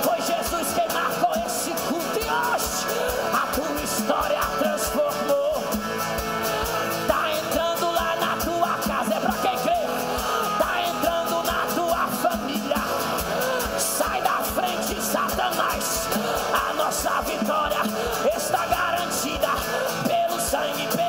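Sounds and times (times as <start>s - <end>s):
man singing into a microphone: 0.0s - 21.0s
strummed acoustic guitar: 0.0s - 21.0s.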